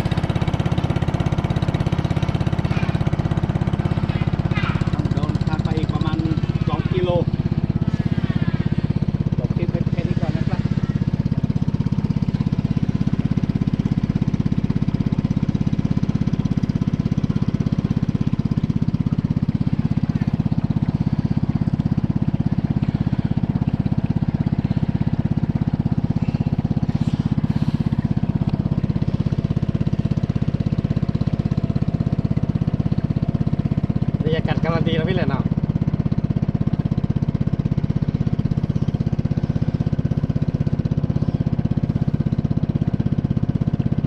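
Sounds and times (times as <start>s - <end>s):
boat engine throbbing: 0.0s - 44.0s.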